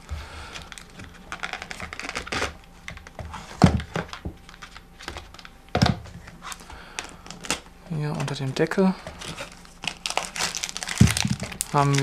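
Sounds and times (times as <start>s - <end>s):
cardboard packaging rustling: 0.0s - 12.0s.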